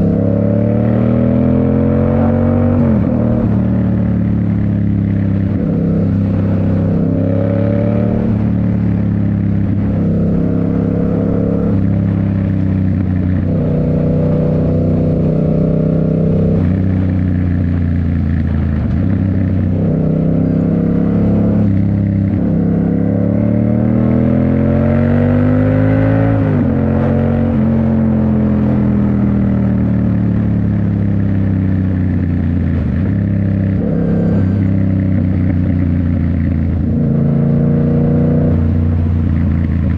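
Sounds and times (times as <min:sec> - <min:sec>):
motorcycle engine on the move: 0:00.0 - 0:39.9.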